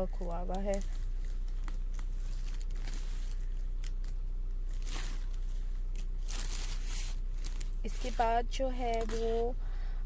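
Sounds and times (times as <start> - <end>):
steady low hum: 0.0 - 10.0
plastic crinkle: 0.2 - 9.4
plastic bag and fabric rustling: 0.2 - 9.5.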